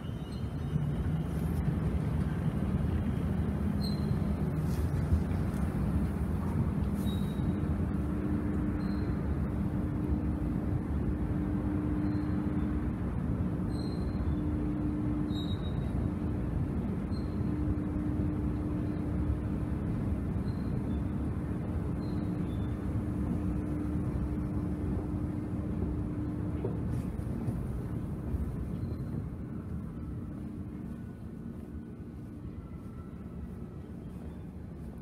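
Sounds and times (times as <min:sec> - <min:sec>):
underground station rumble: 0:00.0 - 0:35.0.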